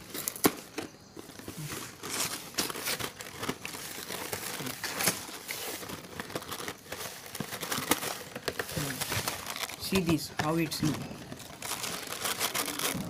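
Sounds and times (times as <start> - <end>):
wrapping crinkling and rustling: 0.0 - 13.0
wrapping tearing: 0.0 - 13.0.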